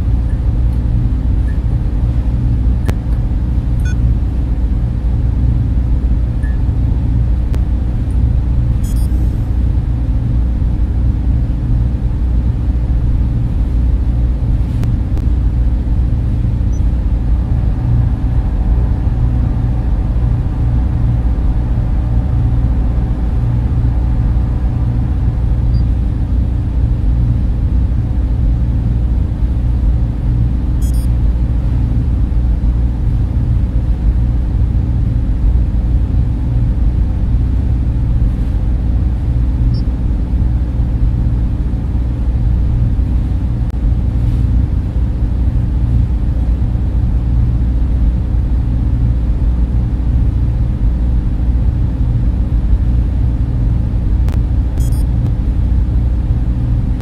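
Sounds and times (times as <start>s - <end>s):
cooling fans humming: 0.0s - 57.0s.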